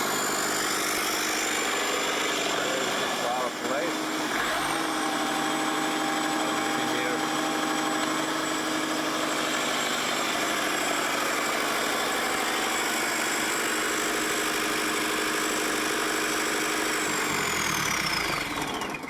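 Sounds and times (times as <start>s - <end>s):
diesel generator engine running: 0.0s - 19.0s.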